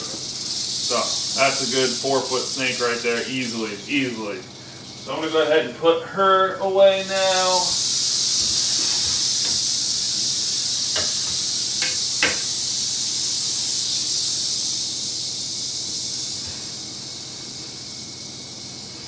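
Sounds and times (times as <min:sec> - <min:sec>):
rattlesnake tail rattling: 0:00.0 - 0:19.0.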